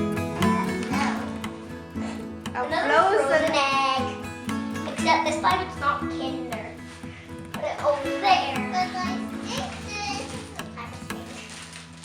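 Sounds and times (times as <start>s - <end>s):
background music with plucked notes: 0.0s - 12.0s.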